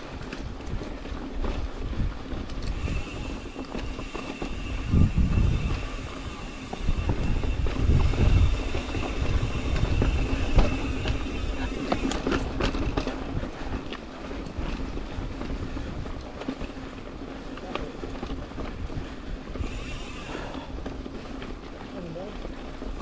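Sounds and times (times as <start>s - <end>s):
bike rattling over bumps: 0.0s - 23.0s
bike tyre rumble: 0.0s - 23.0s
wind buffeting microphone: 0.0s - 23.0s.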